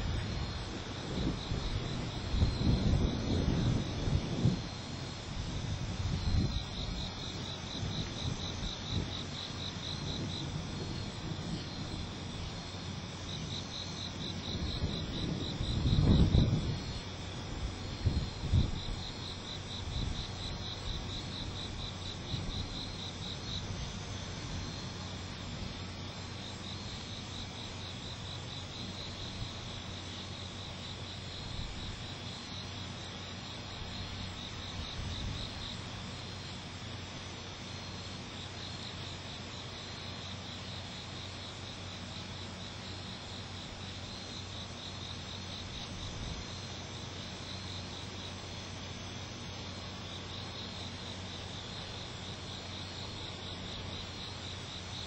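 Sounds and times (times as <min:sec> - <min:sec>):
insects chirping: 0:00.0 - 0:55.0
steady low hum: 0:00.0 - 0:55.0.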